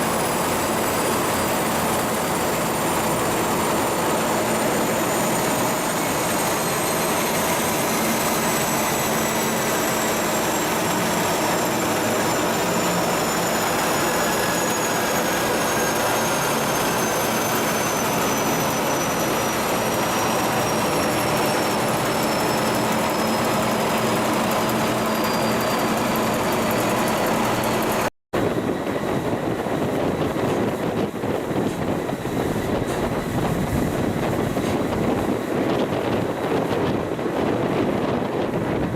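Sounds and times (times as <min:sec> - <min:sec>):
high machinery whine: 0:00.0 - 0:38.9
ship diesel engine running: 0:00.0 - 0:38.9.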